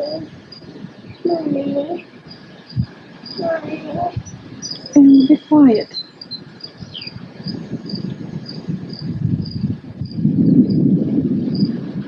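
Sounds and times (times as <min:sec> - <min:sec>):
cricket chirping: 0:00.0 - 0:11.8.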